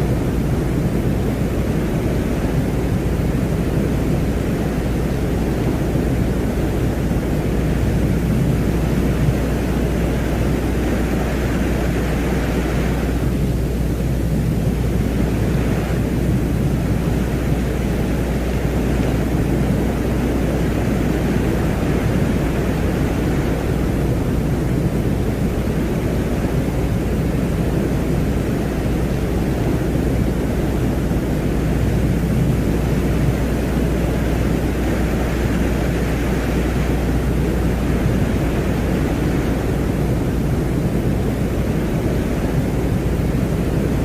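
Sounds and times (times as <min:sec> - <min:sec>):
steady low noise drone: 0:00.0 - 0:44.0.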